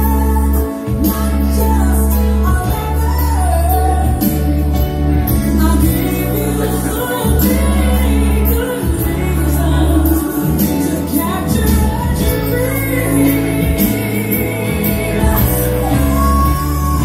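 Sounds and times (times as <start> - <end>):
pop music over speakers: 0.0 - 17.0.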